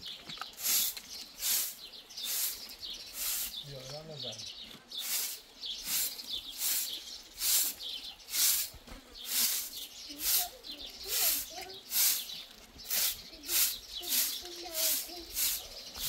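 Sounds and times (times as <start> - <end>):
faint bird chirps: 0.0 - 16.0
broom sweeping hard ground: 0.5 - 3.8, 4.9 - 16.0.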